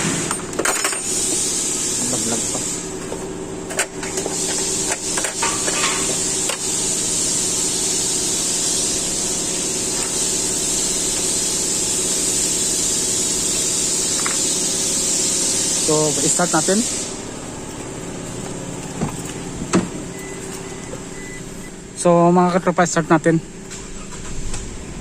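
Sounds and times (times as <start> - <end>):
machine hum with high hiss: 0.0 - 25.0.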